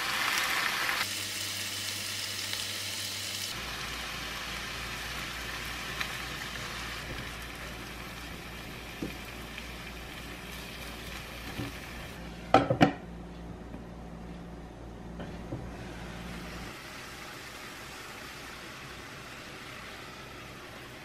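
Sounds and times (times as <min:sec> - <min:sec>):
chicken and onions sizzling in pan: 0:00.0 - 0:12.2, 0:15.8 - 0:21.0.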